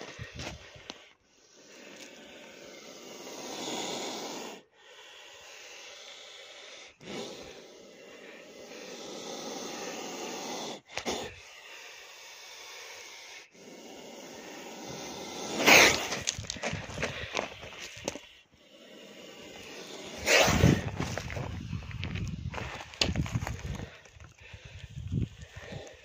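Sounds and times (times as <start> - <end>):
snake hissing: 0.6 - 16.3, 17.0 - 22.5, 23.8 - 26.0.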